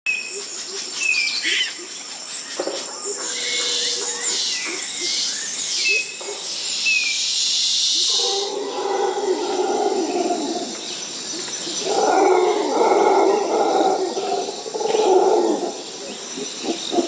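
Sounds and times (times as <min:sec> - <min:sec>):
high-pitched insect hiss: 0:00.1 - 0:17.0.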